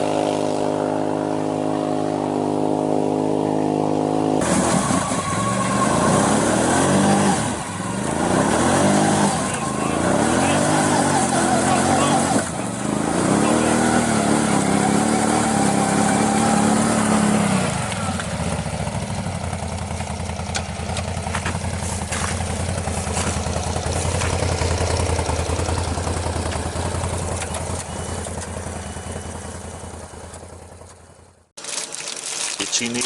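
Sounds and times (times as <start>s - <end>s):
quad engine running: 0.0s - 31.4s.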